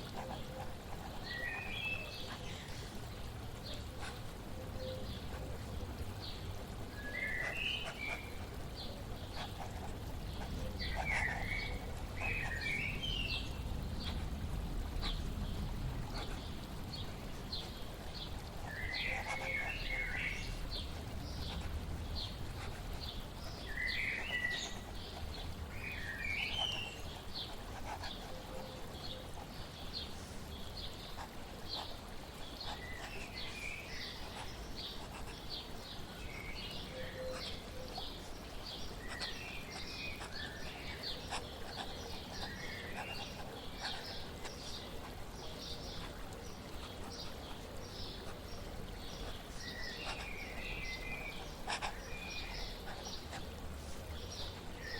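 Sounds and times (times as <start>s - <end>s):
birds chirping: 0.0s - 54.9s
flowing water hiss: 0.0s - 54.9s.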